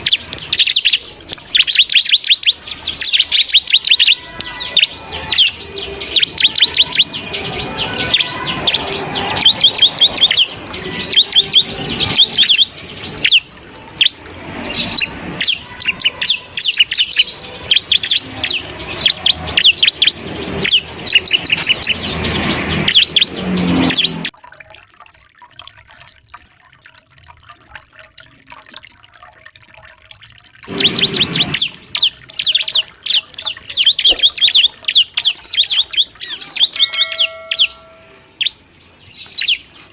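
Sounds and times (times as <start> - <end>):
bird chirping trills: 0.0 - 24.3, 30.3 - 39.9.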